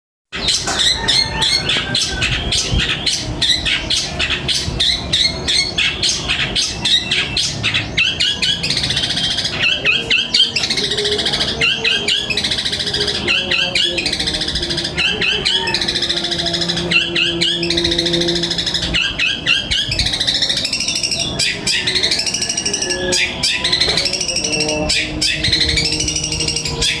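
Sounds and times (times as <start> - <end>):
small birds chirping and squawking: 0.3 - 27.0
buzzing trilled bird phrases: 0.4 - 27.0.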